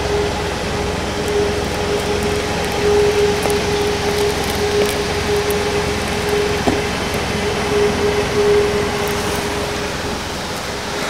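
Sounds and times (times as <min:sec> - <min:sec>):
machine hum with whine: 0:00.0 - 0:11.0.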